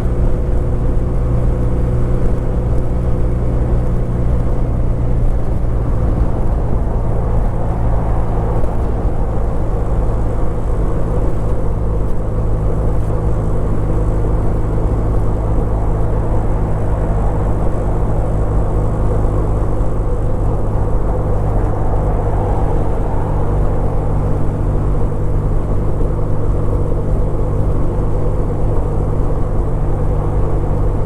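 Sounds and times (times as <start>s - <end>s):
motorcycle engine cruising: 0.0s - 31.0s
road noise rumble: 0.0s - 31.0s.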